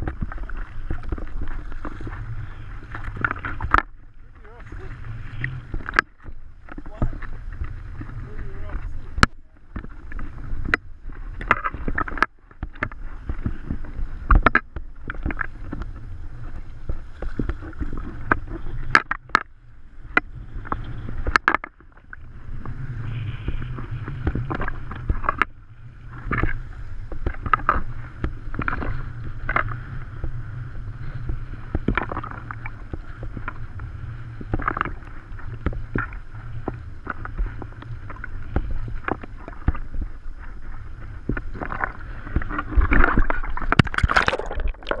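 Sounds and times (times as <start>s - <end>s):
sea water splashing: 0.0s - 45.0s.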